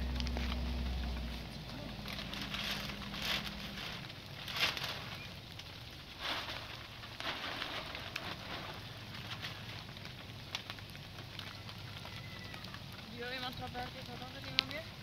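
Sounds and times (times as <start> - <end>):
fire crackling and popping: 0.0 - 15.0
rain falling: 0.0 - 15.0.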